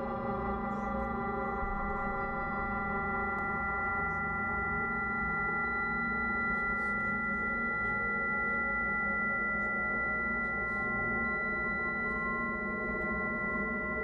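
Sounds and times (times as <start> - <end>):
ambient drone of ringing tones: 0.0 - 14.0.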